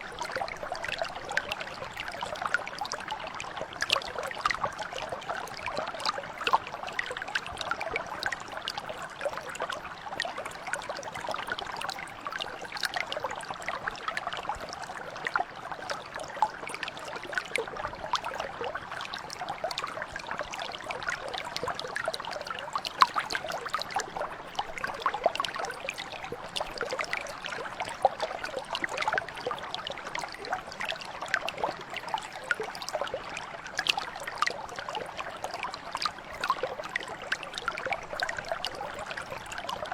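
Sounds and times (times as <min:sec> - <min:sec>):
brook flowing over stones: 0:00.0 - 0:39.9.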